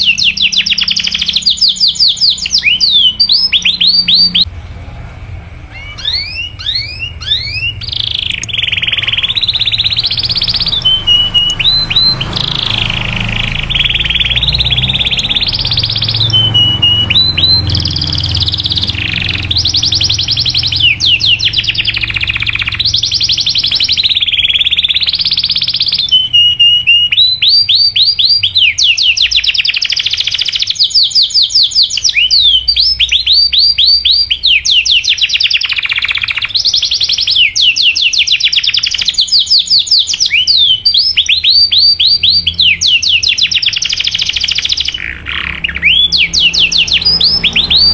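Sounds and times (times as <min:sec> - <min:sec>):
canary singing trills: 0:00.0 - 0:04.5, 0:05.6 - 0:47.9.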